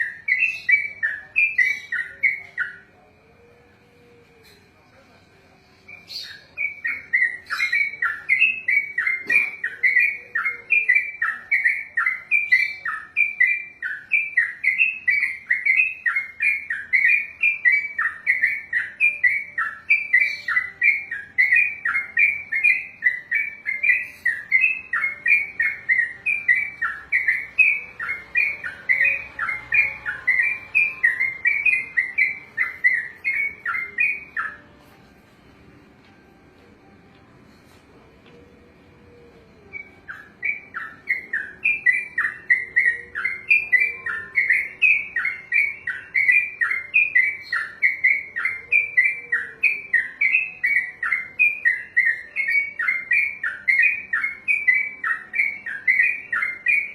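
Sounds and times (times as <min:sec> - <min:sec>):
bulbul singing repeated notes: 0:00.0 - 0:04.7, 0:05.8 - 0:34.8, 0:38.4 - 0:56.9.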